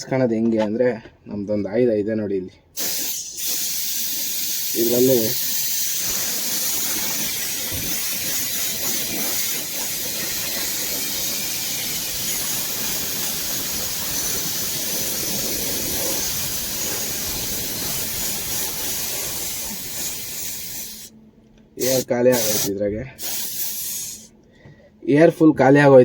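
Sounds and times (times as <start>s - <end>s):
compressed air hissing: 2.8s - 21.1s, 21.8s - 24.4s.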